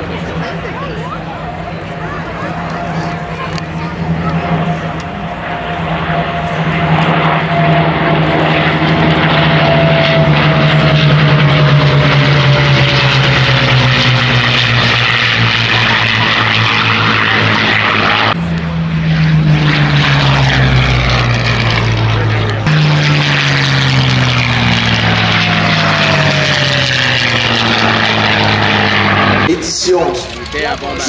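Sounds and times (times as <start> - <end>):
propeller aircraft engines droning: 0.0 - 31.0.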